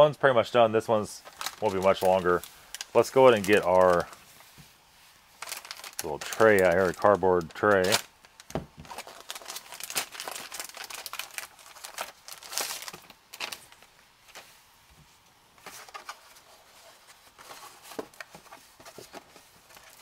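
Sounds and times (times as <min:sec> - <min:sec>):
plastic packaging crinkling: 0:01.2 - 0:04.3, 0:05.3 - 0:14.5, 0:15.6 - 0:20.0.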